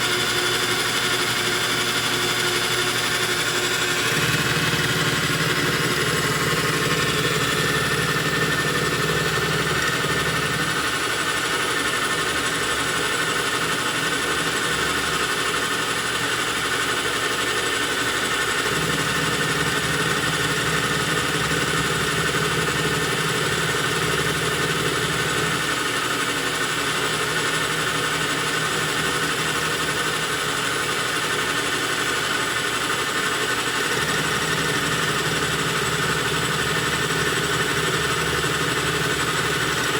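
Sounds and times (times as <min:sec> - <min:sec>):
metal lathe drone: 0:00.0 - 0:16.4, 0:18.6 - 0:39.9.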